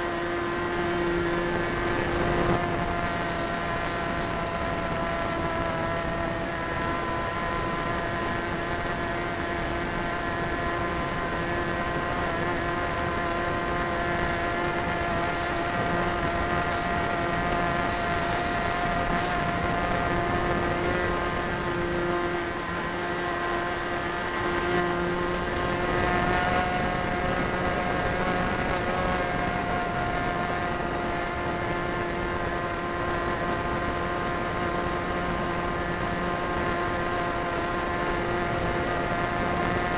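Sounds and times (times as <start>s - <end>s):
model plane engine buzzing: 0.0s - 39.9s
wind rush: 0.0s - 39.9s.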